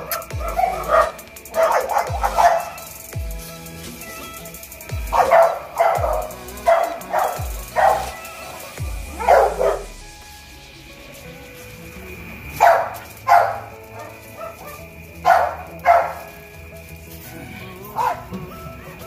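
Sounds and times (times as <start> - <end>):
puppies barking: 0.0 - 10.4, 11.4 - 19.0
background music: 0.0 - 19.0.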